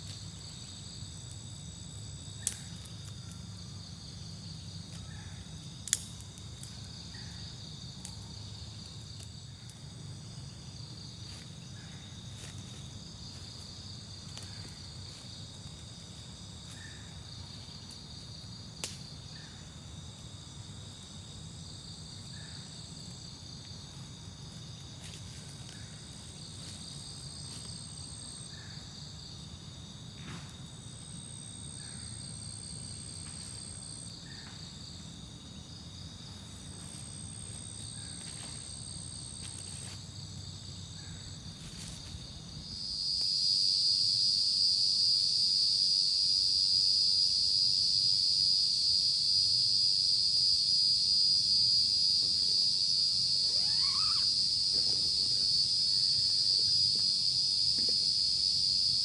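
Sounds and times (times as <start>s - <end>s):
night insects trilling: 0.0s - 59.0s.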